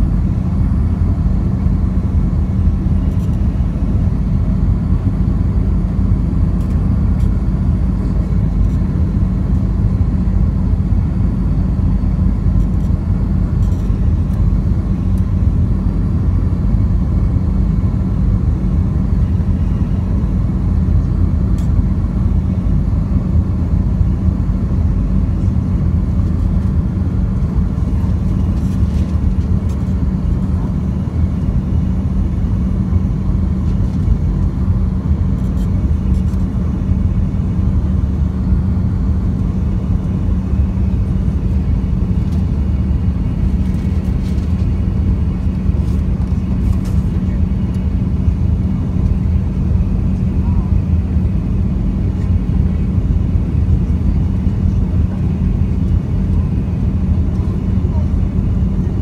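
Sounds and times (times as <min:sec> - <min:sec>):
jet engine rumble in cabin: 0:00.0 - 0:59.0
steady hum: 0:00.0 - 0:59.0.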